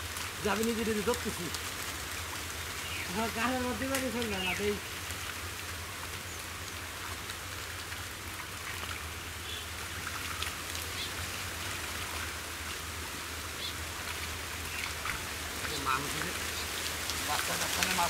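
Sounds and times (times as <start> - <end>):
muddy water sloshing: 0.0 - 18.0.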